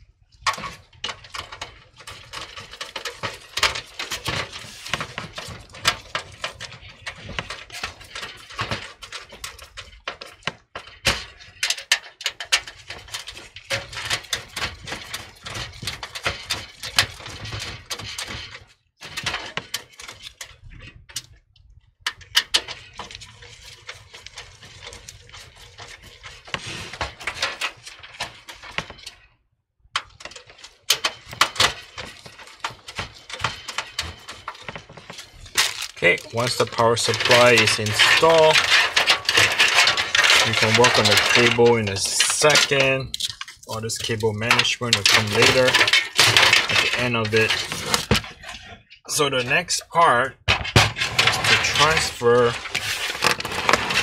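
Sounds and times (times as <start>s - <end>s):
metal clicks and rattles: 0.3s - 54.0s.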